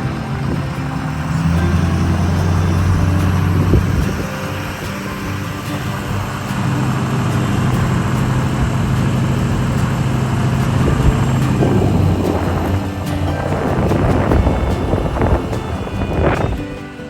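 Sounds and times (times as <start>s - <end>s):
low engine drone: 0.0s - 17.0s
road noise: 0.0s - 17.0s.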